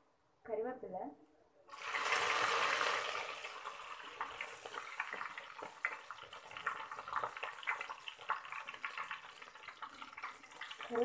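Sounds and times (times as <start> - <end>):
crackles and pops of frying: 1.7 - 11.0
leaves sizzling in hot oil: 1.7 - 11.0.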